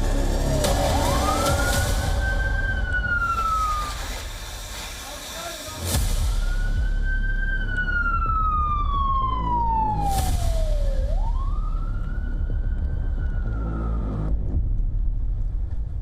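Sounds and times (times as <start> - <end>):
emergency siren wailing: 0.0 - 5.0, 6.2 - 14.6.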